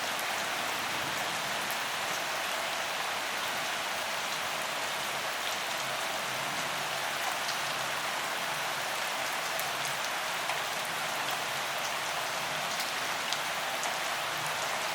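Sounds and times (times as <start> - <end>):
steady rain hiss: 0.0 - 14.9.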